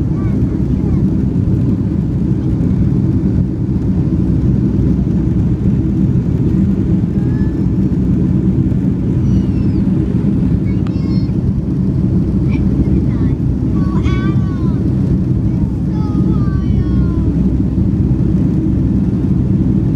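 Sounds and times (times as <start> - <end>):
jet engines rumbling: 0.0 - 19.9
rushing airflow: 0.0 - 19.9.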